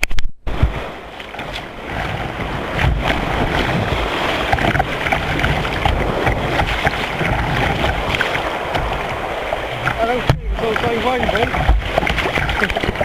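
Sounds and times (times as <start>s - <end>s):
water rushing and splashing: 0.5s - 13.0s
wind rumble on microphone: 0.5s - 13.0s.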